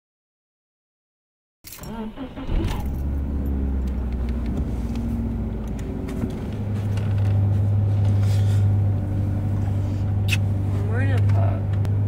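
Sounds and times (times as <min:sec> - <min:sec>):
vehicle engine idling: 0:01.9 - 0:12.0.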